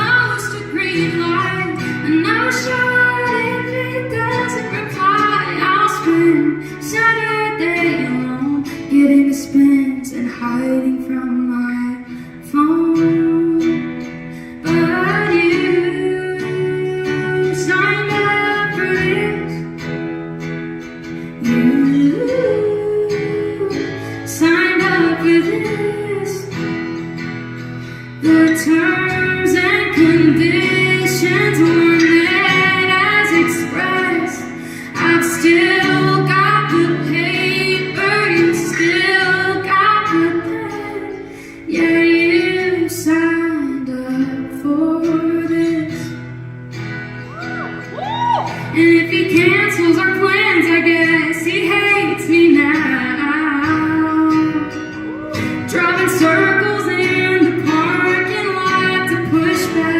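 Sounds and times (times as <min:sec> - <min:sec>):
woman singing: 0:00.0 - 0:20.2, 0:21.0 - 0:59.9.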